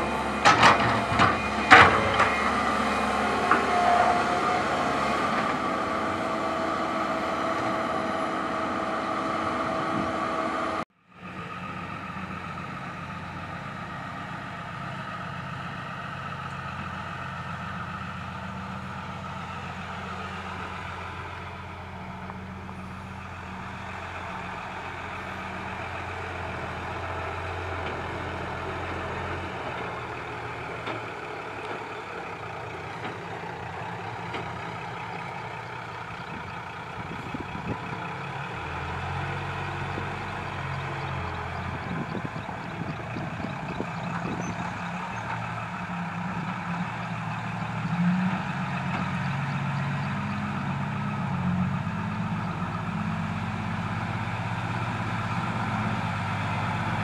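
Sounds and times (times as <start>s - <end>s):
low engine drone: 0.0s - 57.0s.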